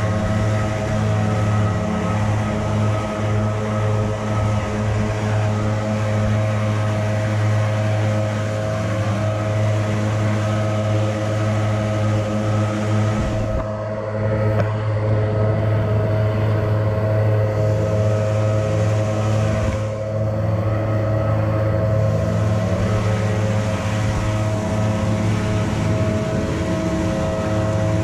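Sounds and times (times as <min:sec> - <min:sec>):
leaf blowers droning: 0:00.0 - 0:28.0.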